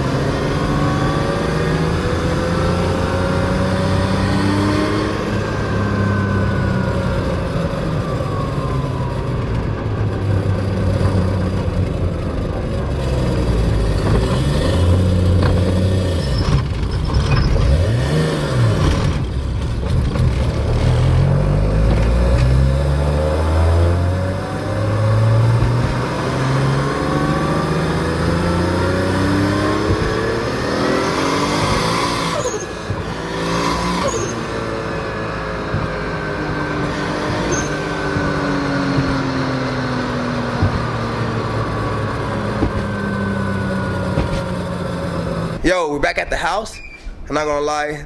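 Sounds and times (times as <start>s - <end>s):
car engine accelerating: 0.0s - 45.8s.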